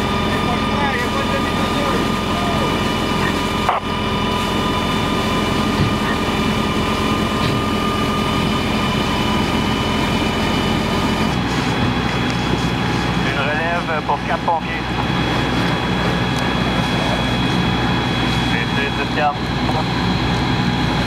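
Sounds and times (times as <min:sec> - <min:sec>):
truck engines and pumps whining: 0:00.0 - 0:21.0.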